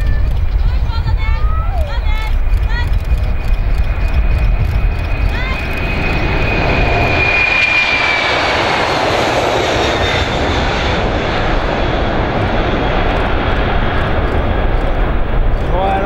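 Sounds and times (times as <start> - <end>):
high jet whine: 0.0 - 16.0
jet engines roaring at takeoff: 0.0 - 16.0.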